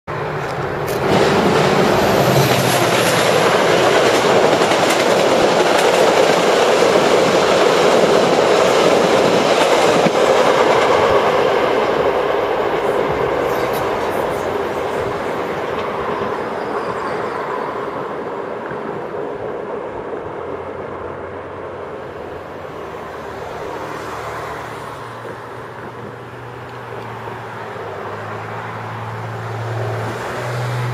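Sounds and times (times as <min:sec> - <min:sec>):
train wheels running on rails: 0:00.1 - 0:28.5.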